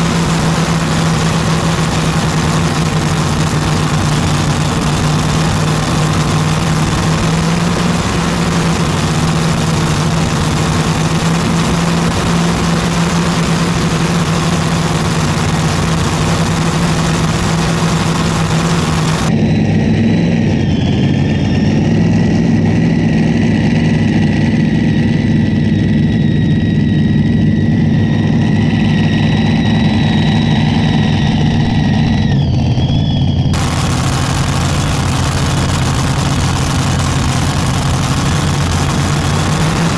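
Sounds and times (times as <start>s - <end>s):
tractor engine idling: 0.0s - 19.9s, 21.6s - 39.9s
thin high whine: 0.0s - 21.9s, 24.8s - 39.9s.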